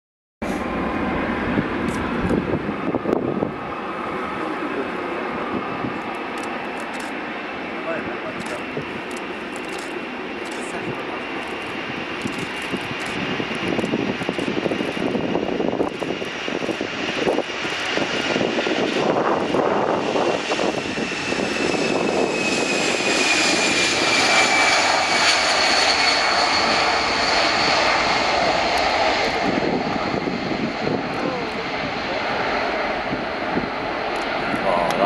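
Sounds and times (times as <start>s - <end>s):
jet engines at takeoff power: 0.4s - 35.0s.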